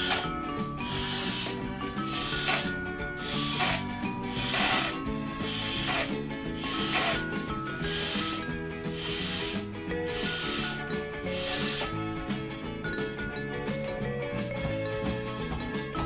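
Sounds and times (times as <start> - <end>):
balloon inflating air puffs: 0.0 - 13.1
background music: 0.0 - 16.0.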